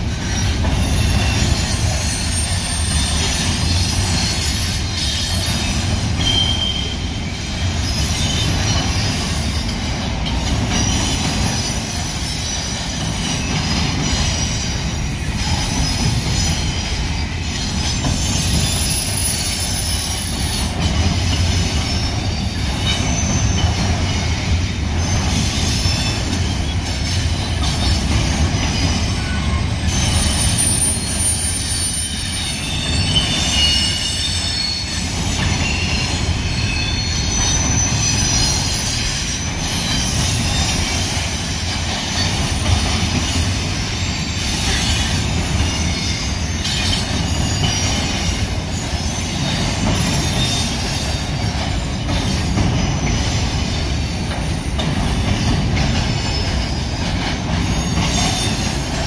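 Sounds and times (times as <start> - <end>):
train wheels rumbling on rail: 0.0 - 59.0
high-pitched wheel squeals: 0.2 - 9.8, 10.5 - 20.8, 21.4 - 42.4, 43.1 - 59.0.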